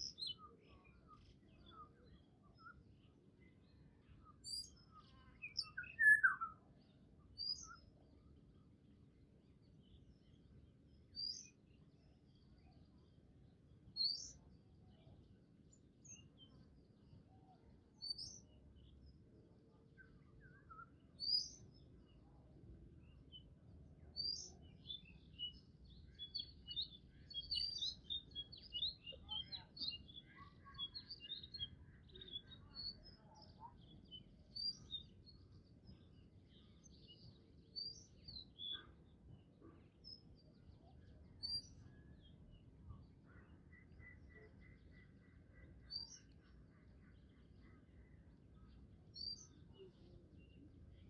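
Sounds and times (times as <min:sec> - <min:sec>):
low steady background noise: 0:00.0 - 0:51.0
small birds chirping: 0:00.0 - 0:51.0.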